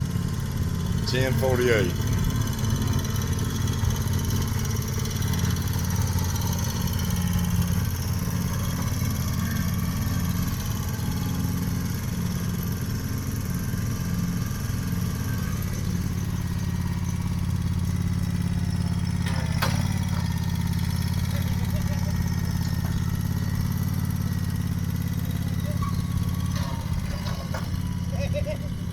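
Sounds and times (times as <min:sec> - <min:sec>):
heavy equipment engine running: 0:00.0 - 0:28.9.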